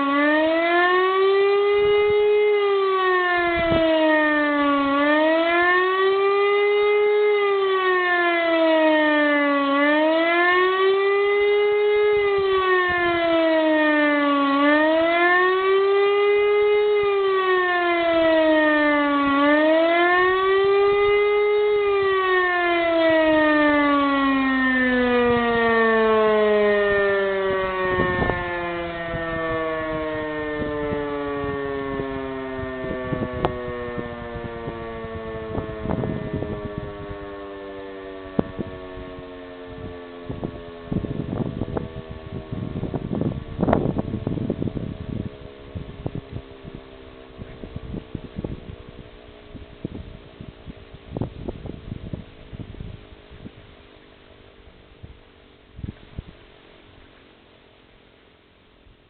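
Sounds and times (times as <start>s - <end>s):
wailing motor siren: 0.0s - 57.1s.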